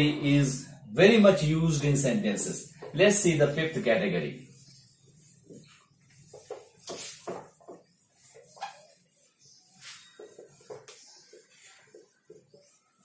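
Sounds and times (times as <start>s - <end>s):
duster scrubbing a whiteboard: 2.1s - 13.0s.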